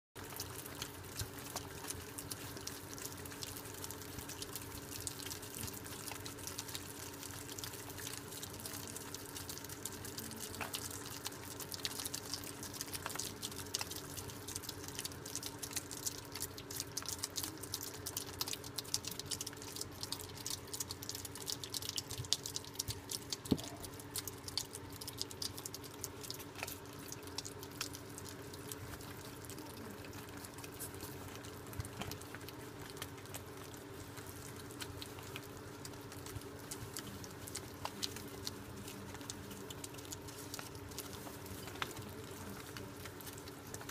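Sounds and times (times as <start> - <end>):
animals chewing with wet smacking: 0.2 - 43.9.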